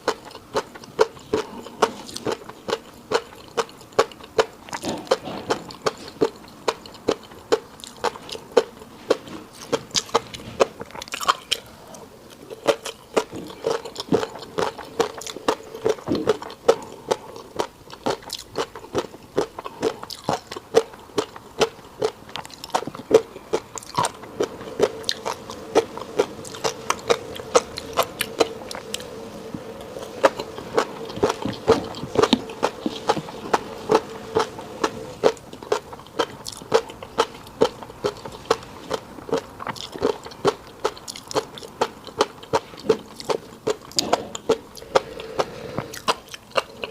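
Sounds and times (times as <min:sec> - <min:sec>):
person chewing: 0:00.0 - 0:46.9.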